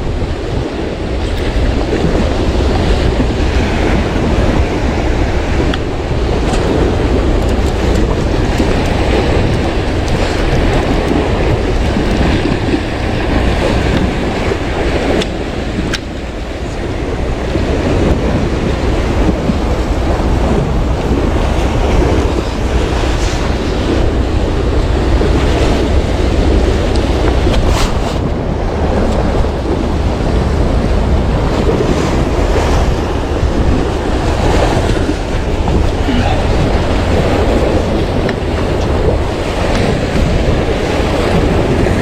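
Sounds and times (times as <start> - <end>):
sea waves: 0.0 - 42.0
wind rumbling on microphone: 0.0 - 42.0.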